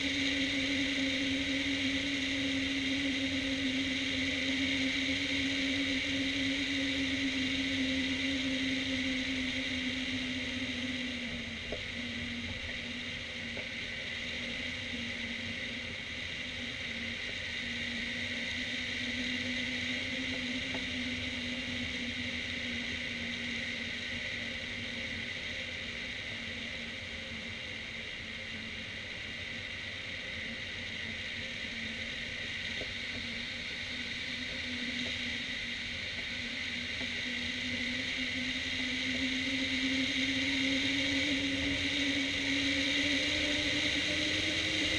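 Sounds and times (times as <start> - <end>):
low droning hum: 0.0 - 44.9.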